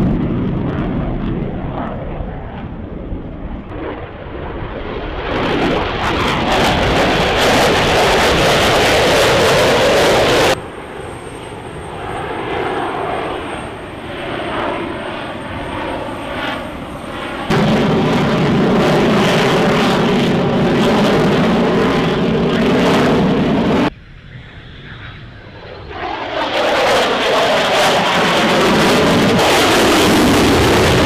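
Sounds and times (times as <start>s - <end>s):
jet engine noise: 0.0s - 31.0s.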